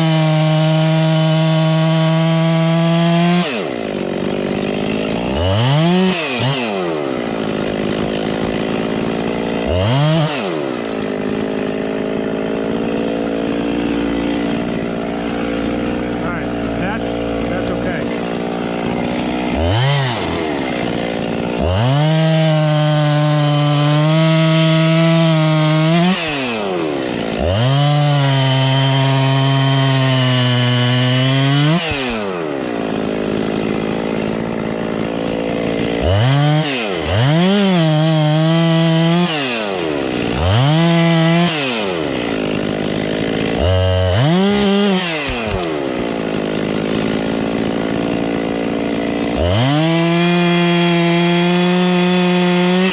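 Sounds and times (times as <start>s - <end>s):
chainsaw revving: 0.0s - 52.9s.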